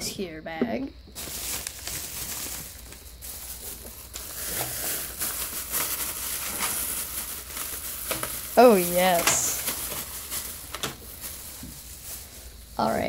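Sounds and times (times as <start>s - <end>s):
plastic bag rustling: 1.1s - 13.0s.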